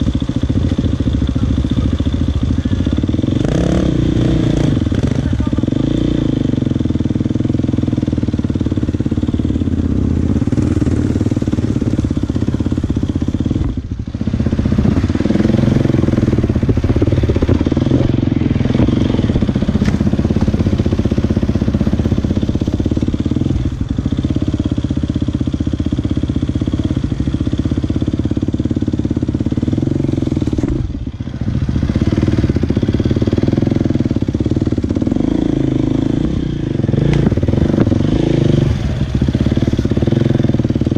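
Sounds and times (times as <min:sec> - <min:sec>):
dirt bike engine running hard: 0:00.0 - 0:40.9.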